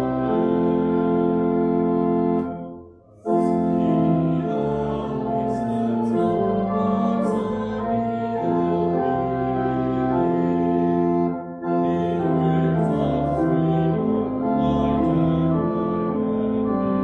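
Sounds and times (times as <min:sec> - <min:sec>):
slow organ chords: 0:00.0 - 0:17.0.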